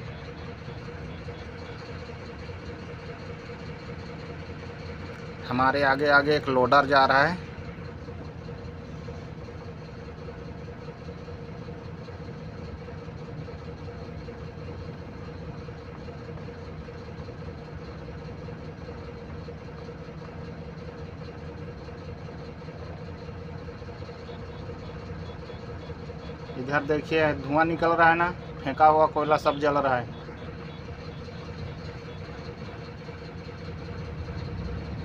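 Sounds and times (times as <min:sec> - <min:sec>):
truck diesel engine drone: 0:00.0 - 0:35.0.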